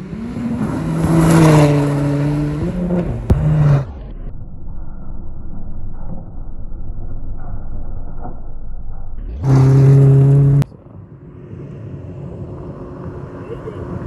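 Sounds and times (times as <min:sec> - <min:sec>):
rally car engine at full throttle: 0:00.0 - 0:14.0
muffled engine rumble: 0:02.6 - 0:14.0.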